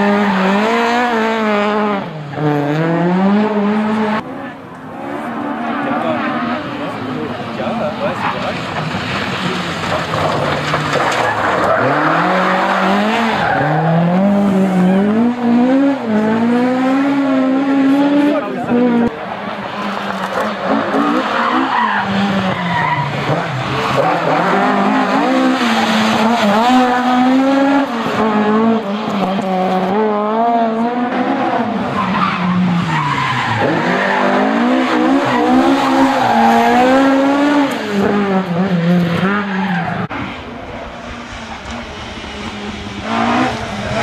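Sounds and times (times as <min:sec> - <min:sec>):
rally car engine at full throttle: 0:00.0 - 0:44.0.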